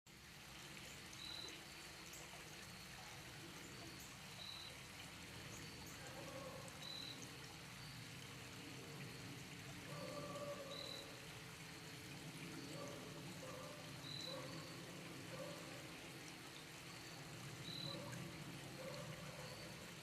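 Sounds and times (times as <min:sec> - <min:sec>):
trickling water: 0:00.1 - 0:20.0.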